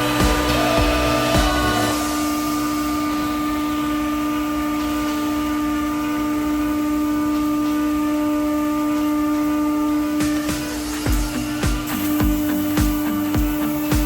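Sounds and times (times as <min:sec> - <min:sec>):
router spindle motor whine: 0:00.0 - 0:14.0.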